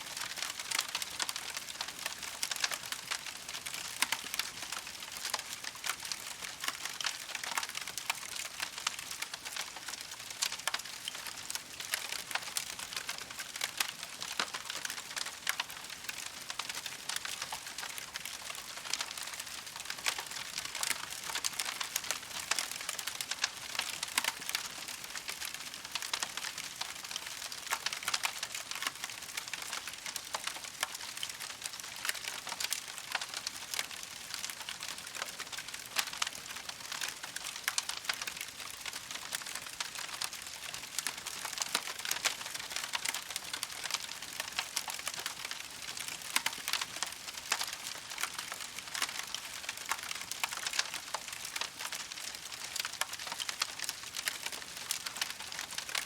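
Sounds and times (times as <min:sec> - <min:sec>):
campfire crackling and popping: 0:00.2 - 0:56.0.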